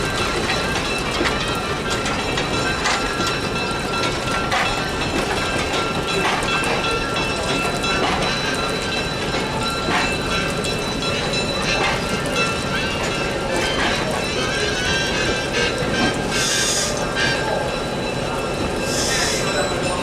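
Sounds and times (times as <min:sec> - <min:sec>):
train running on rails: 0:00.0 - 0:20.0.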